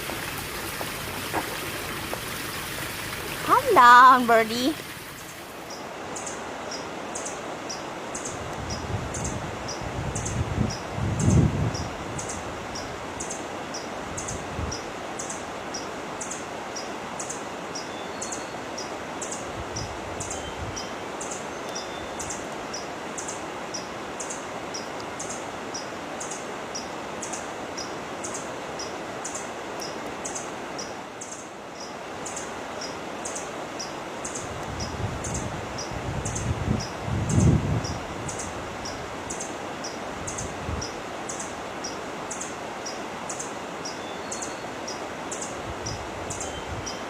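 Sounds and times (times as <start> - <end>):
background hiss: 0.0 - 47.0.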